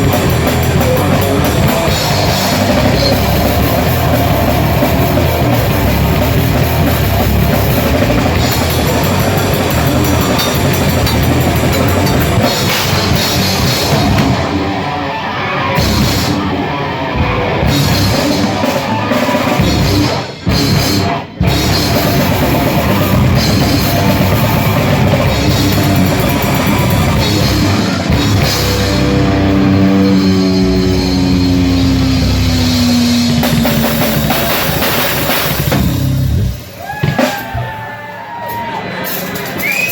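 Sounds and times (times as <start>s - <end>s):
grindcore band playing live: 0.0s - 39.9s.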